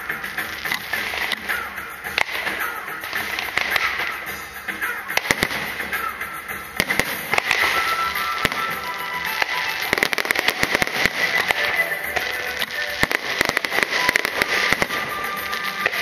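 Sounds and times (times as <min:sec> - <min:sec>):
fireworks bangs and crackling: 0:00.0 - 0:16.0
fireworks hiss: 0:00.0 - 0:16.0
music: 0:00.0 - 0:16.0.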